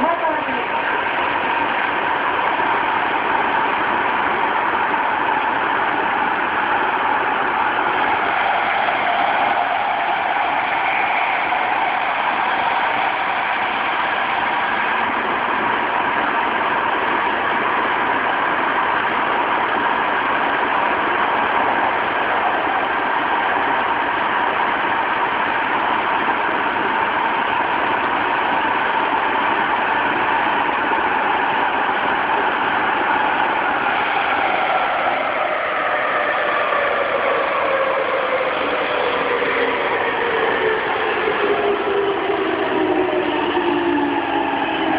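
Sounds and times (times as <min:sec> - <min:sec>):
train motor whine: 0:00.0 - 0:44.9
train wheels rumbling on rails: 0:00.0 - 0:44.9.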